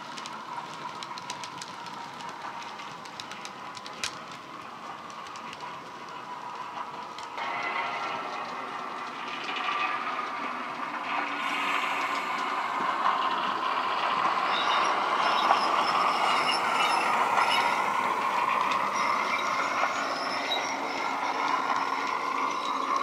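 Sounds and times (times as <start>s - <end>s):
model wheels clicking on track: 0.0s - 23.0s.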